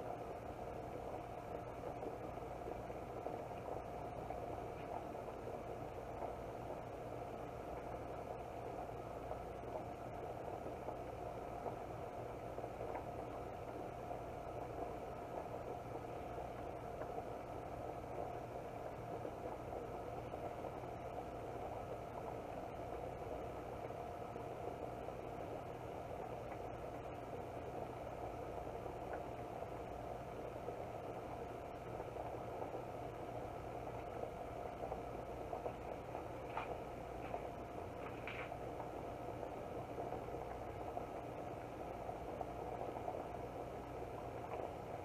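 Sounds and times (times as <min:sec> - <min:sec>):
rice water boiling in pot: 0:00.0 - 0:45.0.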